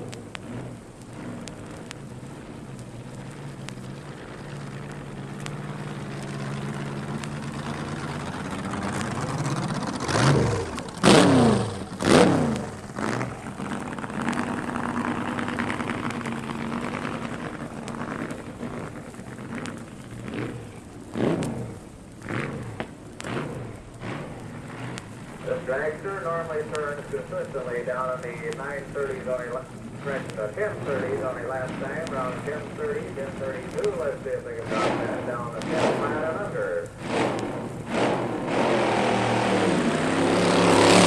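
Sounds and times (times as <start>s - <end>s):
dragster engine idling: 0.0s - 41.0s
engine throttle blips: 0.0s - 41.0s.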